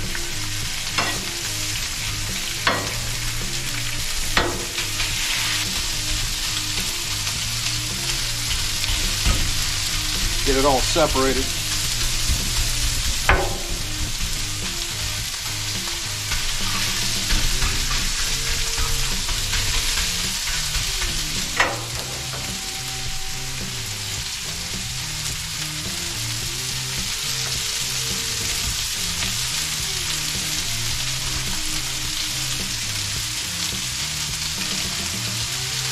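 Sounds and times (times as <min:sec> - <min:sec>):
beef sizzling on a griddle: 0:00.0 - 0:35.9.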